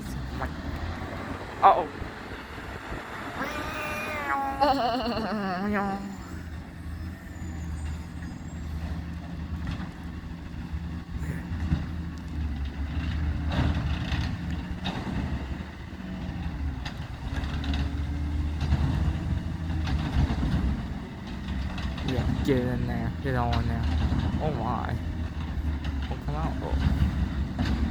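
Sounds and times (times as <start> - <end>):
truck engine rumbling: 0.0 - 27.9.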